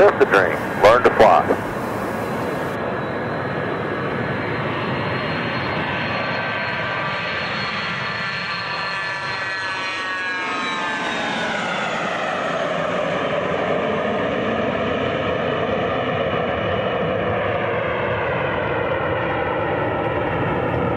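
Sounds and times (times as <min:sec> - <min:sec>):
airplane engine drone: 0:00.0 - 0:20.9.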